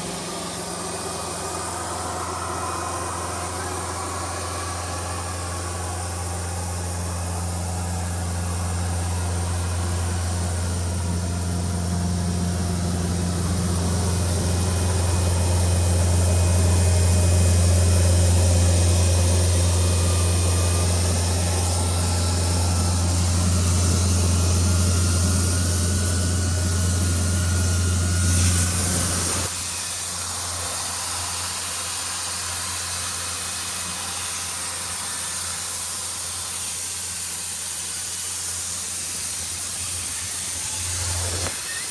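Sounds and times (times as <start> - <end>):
rising whine: 0.0 - 37.2, 38.7 - 41.9
air hissing: 0.0 - 41.9
diesel compressor engine running: 0.0 - 41.9.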